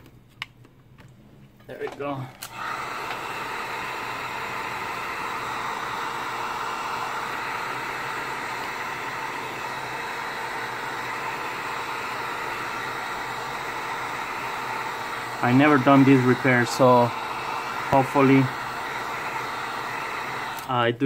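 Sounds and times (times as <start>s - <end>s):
heat gun blowing air: 2.0s - 21.0s.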